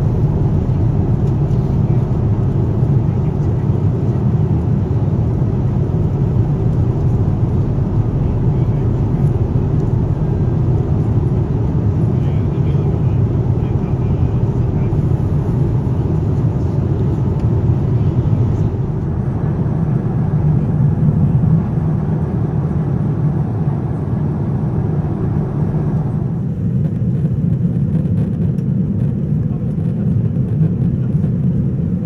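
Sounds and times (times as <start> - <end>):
airplane cabin roar: 0.0 - 32.0.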